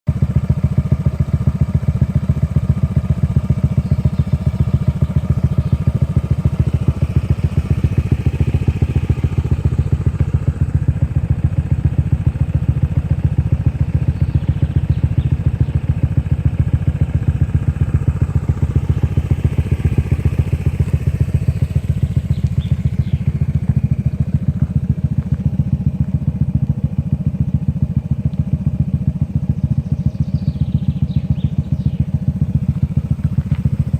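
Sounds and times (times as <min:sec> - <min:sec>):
scooter engine idling: 0:00.1 - 0:33.9.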